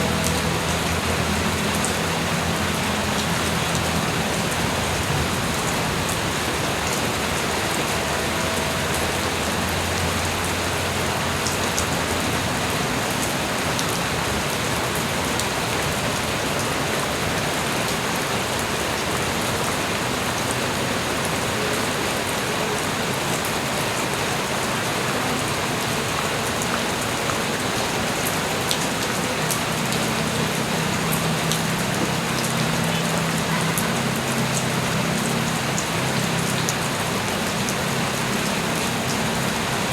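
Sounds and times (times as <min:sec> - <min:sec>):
light rain falling: 0:00.0 - 0:39.9
raindrops ticking on surfaces: 0:00.0 - 0:39.9.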